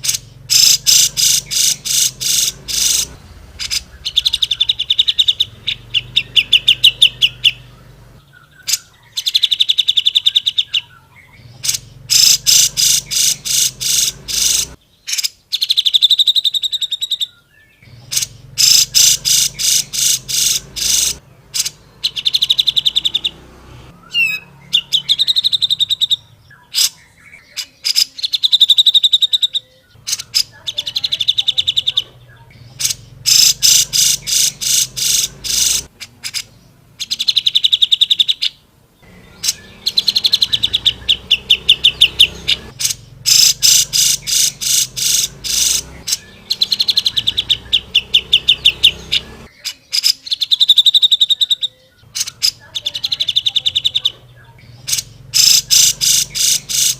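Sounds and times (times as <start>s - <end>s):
bulbul singing trilled phrases: 0.0s - 56.9s.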